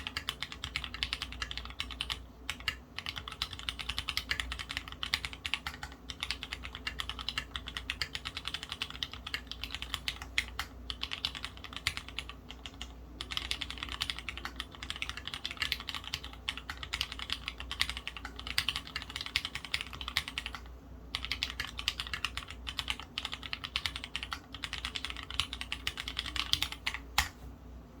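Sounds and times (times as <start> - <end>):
fast mechanical keyboard typing: 0.0 - 27.3.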